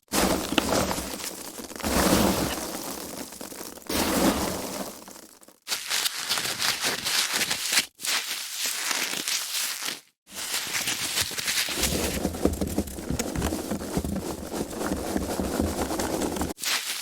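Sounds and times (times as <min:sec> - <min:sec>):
foam packaging crunching and crinkling: 0:00.0 - 0:17.0.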